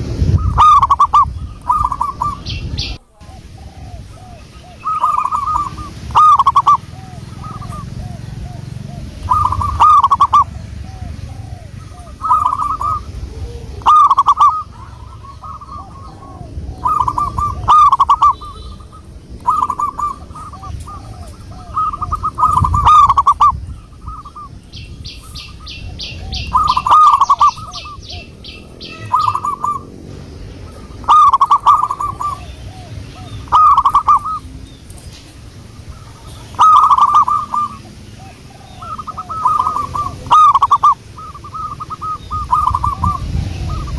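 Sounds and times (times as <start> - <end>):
bird chirping: 0.2 - 43.9
dove cooing: 0.3 - 30.0, 30.6 - 43.9.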